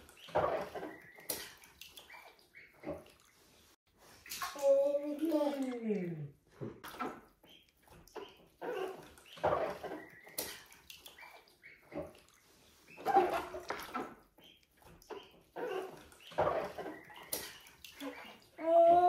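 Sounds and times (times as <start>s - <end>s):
water splashing in baby bath: 0.0s - 3.4s, 4.1s - 7.3s, 8.0s - 14.2s, 15.7s - 19.0s.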